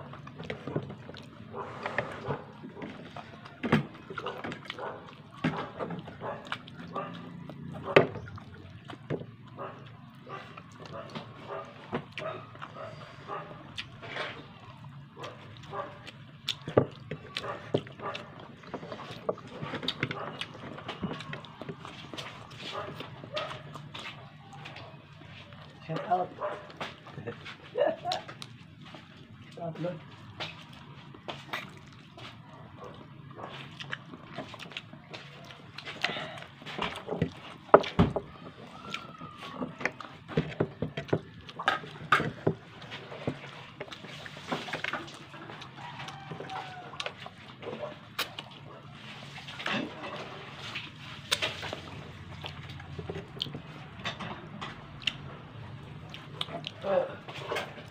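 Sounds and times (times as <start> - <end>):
chewing: 0.0 - 57.9.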